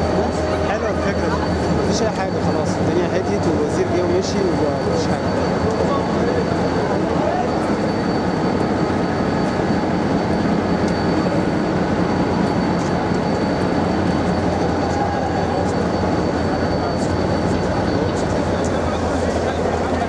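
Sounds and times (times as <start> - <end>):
busy railway platform rumble: 0.0 - 20.0
faint high whine: 0.0 - 20.0.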